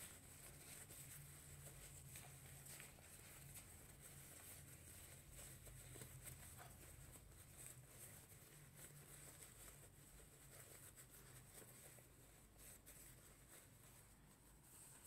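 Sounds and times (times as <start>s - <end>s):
nylon fabric rustling: 0.0s - 15.0s.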